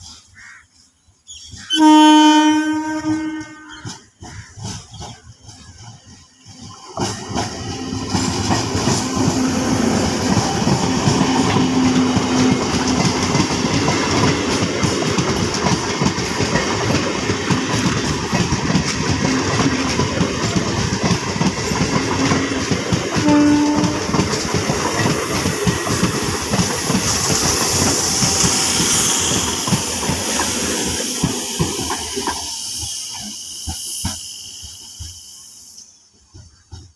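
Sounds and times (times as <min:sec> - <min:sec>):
train wheels clattering over rail joints: 0:03.7 - 0:35.2, 0:36.1 - 0:36.9.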